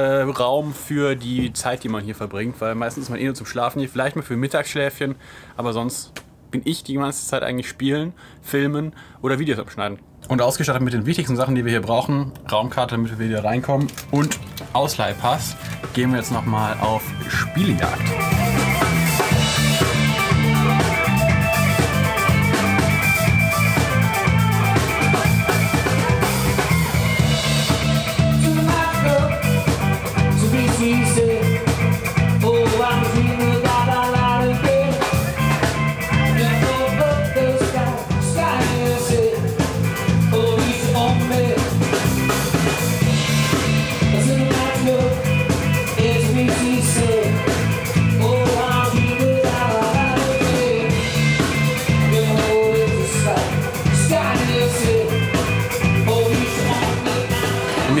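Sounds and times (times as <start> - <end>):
guitar and drums song: 0.0 - 4.4, 13.1 - 58.0.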